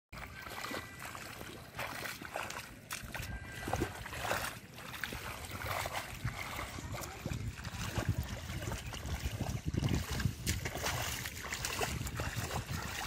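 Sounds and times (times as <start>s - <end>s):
hands squelching in wet mud: 0.2s - 13.0s
water sloshing: 0.2s - 13.0s.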